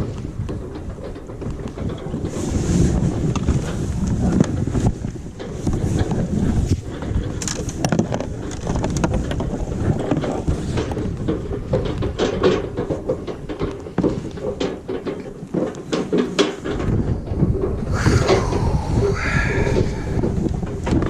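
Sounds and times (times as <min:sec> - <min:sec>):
small boat engine rumble: 0:00.0 - 0:21.0
waves slapping against hull: 0:00.0 - 0:21.0
wind buffeting microphone: 0:00.0 - 0:21.0.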